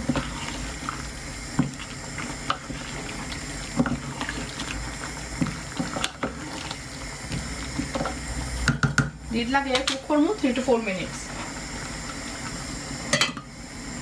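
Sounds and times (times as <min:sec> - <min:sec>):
simmering pot hiss: 0:00.0 - 0:14.0.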